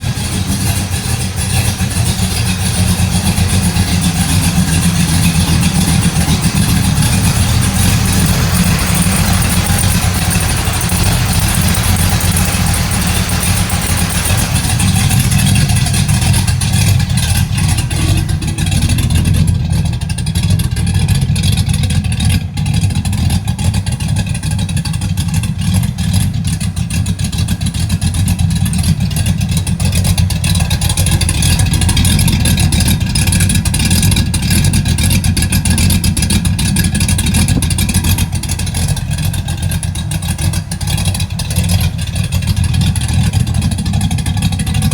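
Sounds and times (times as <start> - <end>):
pickup truck engine running: 0.0 - 44.9.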